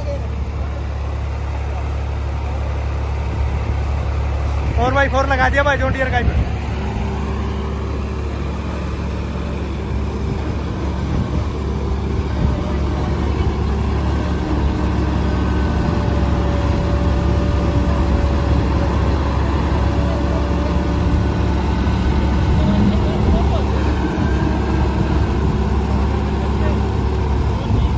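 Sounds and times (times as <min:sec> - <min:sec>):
diesel tractor engines under load: 0:00.0 - 0:27.9.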